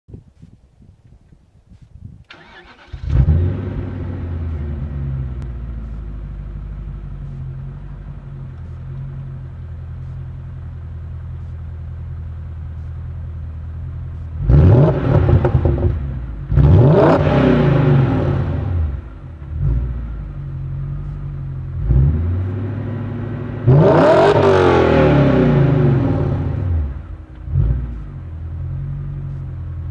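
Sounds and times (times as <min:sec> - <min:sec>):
car engine idling and revving: 0:01.8 - 0:29.9.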